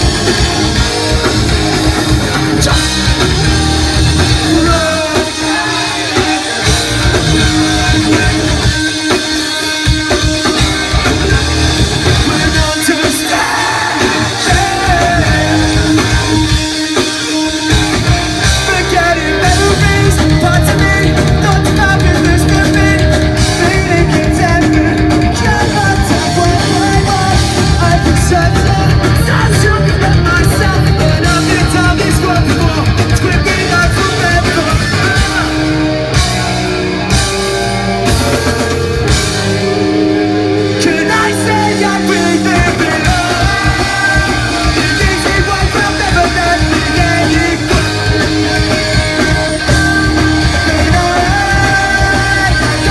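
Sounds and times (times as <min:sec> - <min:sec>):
person singing: 0:00.0 - 0:36.2, 0:40.2 - 0:52.9
drum kit: 0:00.0 - 0:52.9
electric guitars: 0:00.0 - 0:52.9
live rock band playing: 0:00.0 - 0:52.9.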